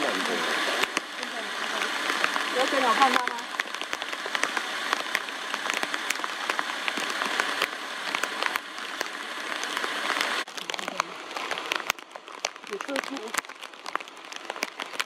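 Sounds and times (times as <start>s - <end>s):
rain drop ticks: 0.0s - 15.0s
rain hiss on foliage: 0.0s - 15.0s.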